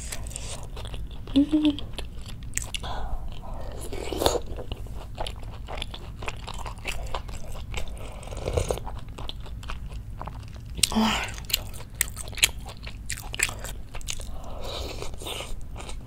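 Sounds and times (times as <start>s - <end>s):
close chewing with wet mouth clicks: 0.0s - 16.0s.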